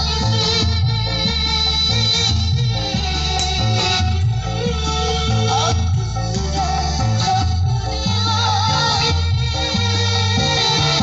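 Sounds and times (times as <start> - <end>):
heavy bass music: 0.0 - 11.0.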